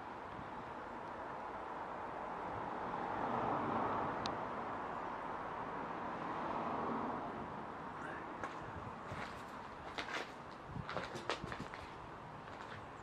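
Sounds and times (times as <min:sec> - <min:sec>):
outdoor background rush: 0:00.0 - 0:13.0.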